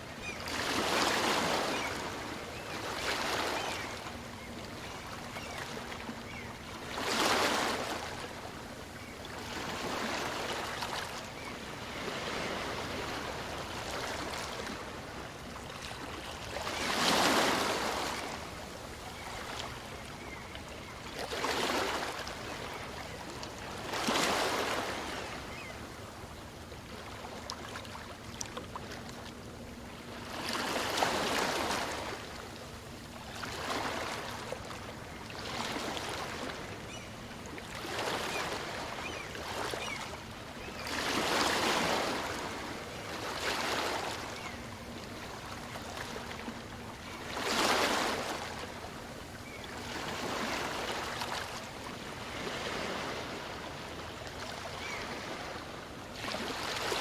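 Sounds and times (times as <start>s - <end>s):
small waves breaking: 0.0s - 57.0s.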